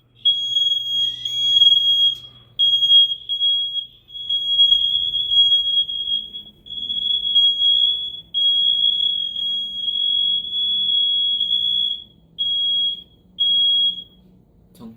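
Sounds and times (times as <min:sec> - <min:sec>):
smoke alarm high-pitched tone: 0:00.0 - 0:14.3.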